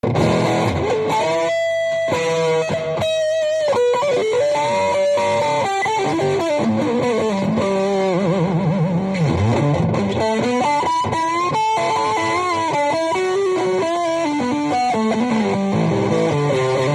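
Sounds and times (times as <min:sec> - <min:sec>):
electric guitar lead lines: 0:00.0 - 0:16.9.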